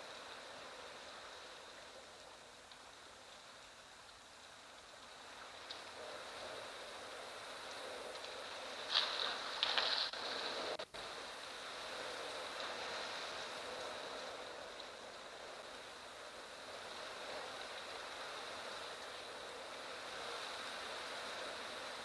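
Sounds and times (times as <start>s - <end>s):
wind blowing through grass: 0.0s - 22.0s.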